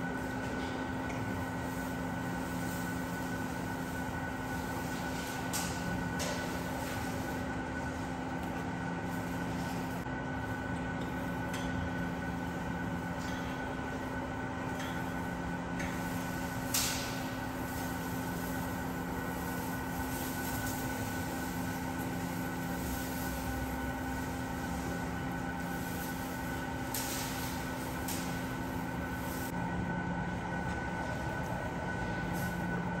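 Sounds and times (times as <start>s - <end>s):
mechanical hum with tones: 0.0s - 33.0s.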